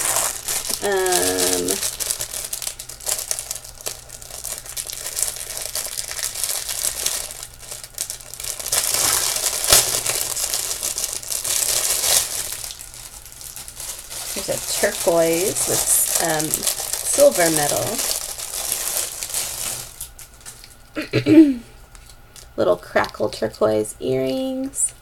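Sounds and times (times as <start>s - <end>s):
packaging crinkling and rustling: 0.0s - 20.9s, 21.8s - 23.3s.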